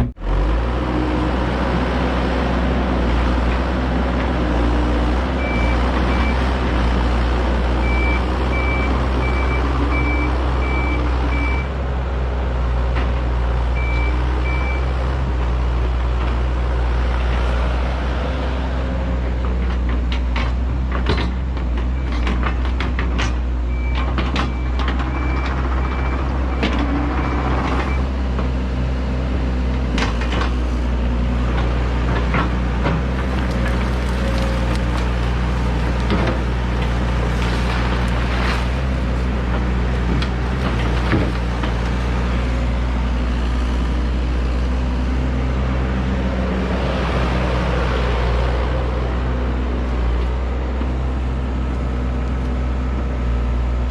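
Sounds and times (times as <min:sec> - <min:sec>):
heavy diesel machine running: 0:00.0 - 0:53.9.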